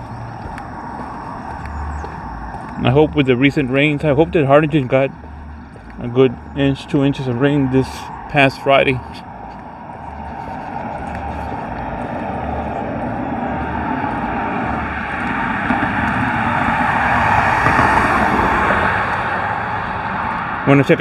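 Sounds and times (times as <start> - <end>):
car passing on concrete highway: 0.0 - 21.0.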